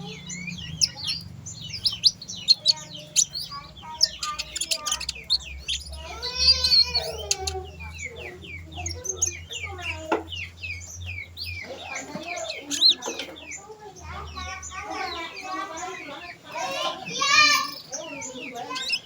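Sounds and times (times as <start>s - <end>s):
sunbird twittering: 0.0s - 19.0s.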